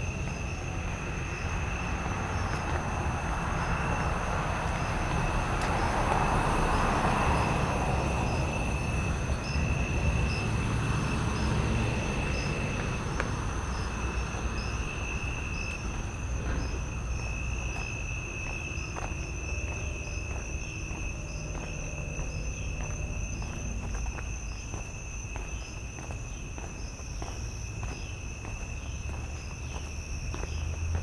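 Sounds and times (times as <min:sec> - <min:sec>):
insect pulsing call: 0:00.0 - 0:31.0
low rumbling rush: 0:00.0 - 0:31.0
insect high trill: 0:04.8 - 0:31.0.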